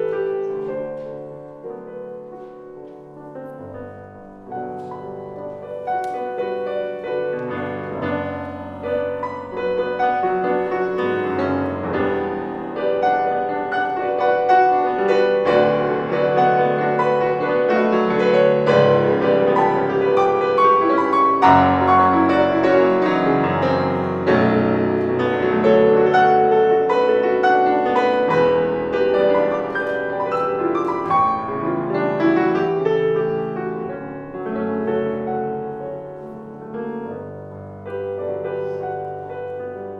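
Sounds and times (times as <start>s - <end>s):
solo grand piano playing: 0.0s - 39.9s.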